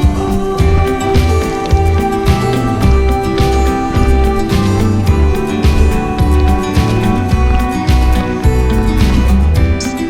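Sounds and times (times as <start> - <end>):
guitar over bass and drums: 0.0 - 10.0.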